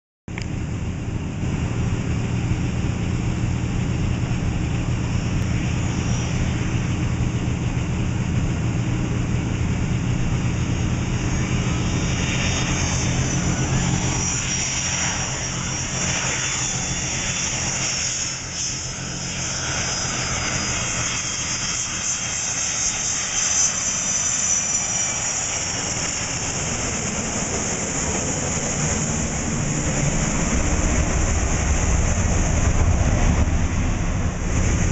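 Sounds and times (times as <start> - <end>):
jet engine whine: 0.3 - 34.9
low engine rumble: 0.3 - 34.9.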